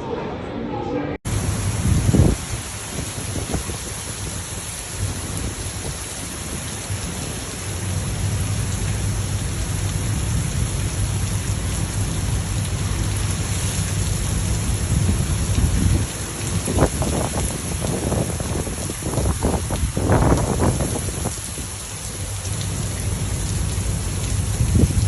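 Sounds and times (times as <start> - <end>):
heavy rain falling: 1.3 - 25.0
thunder rumbling: 1.3 - 25.0.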